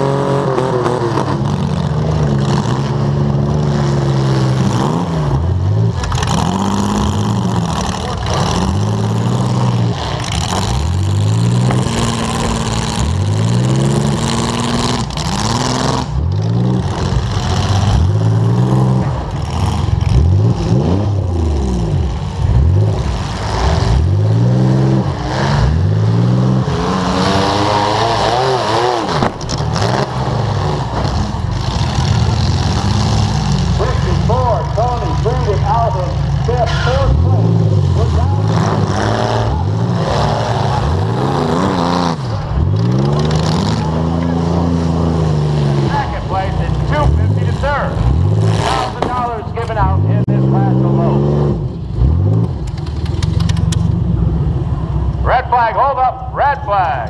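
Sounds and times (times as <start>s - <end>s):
car engine revving hard: 0.0s - 52.6s.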